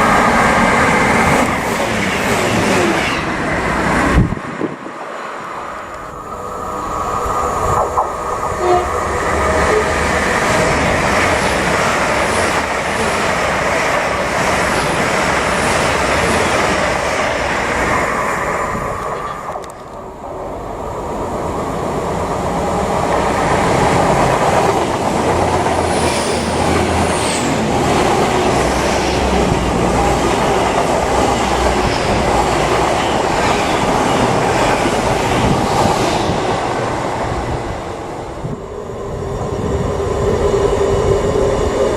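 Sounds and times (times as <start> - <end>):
diesel train running past: 0.0 - 41.9.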